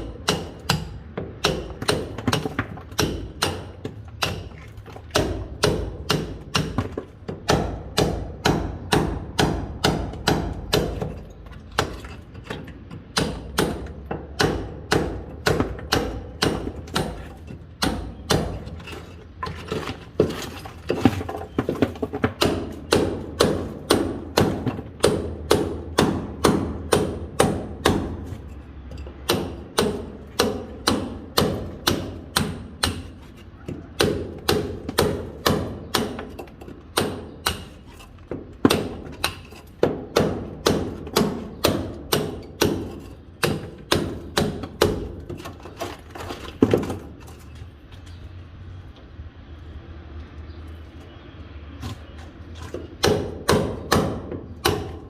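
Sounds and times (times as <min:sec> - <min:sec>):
hammer striking chisel on masonry: 0:00.0 - 0:47.4, 0:51.8 - 0:55.0.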